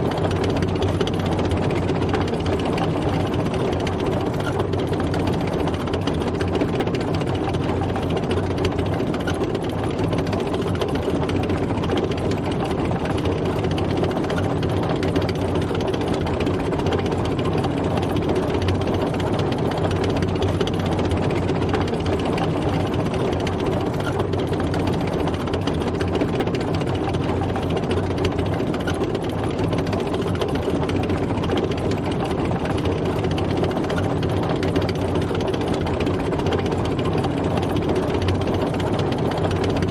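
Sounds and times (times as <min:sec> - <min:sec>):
tank engine running: 0:00.0 - 0:39.9.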